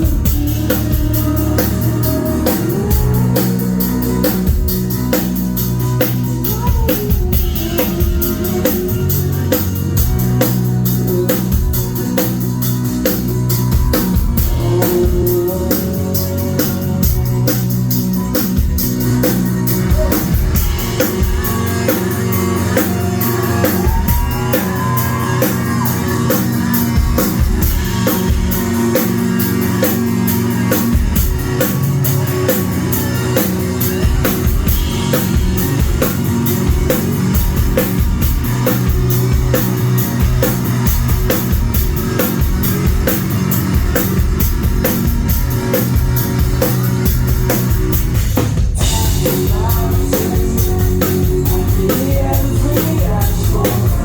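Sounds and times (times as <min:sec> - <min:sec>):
distorted electric guitar: 0:00.0 - 0:54.0
fast drums: 0:00.0 - 0:54.0
live rock band playing: 0:00.0 - 0:54.0.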